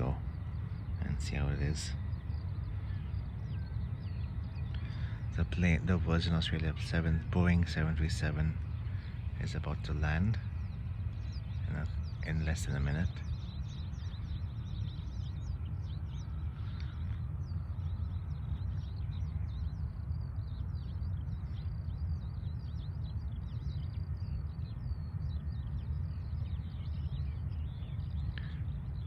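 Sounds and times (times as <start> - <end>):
low rumble: 0.0 - 29.0
small birds chirping: 0.0 - 29.0.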